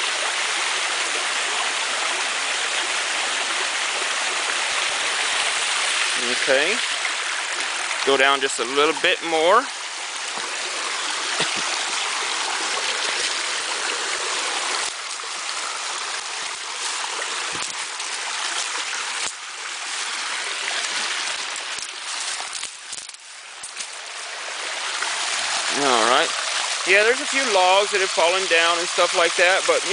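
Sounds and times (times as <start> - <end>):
creek water tumbling over rocks: 0.0 - 29.9.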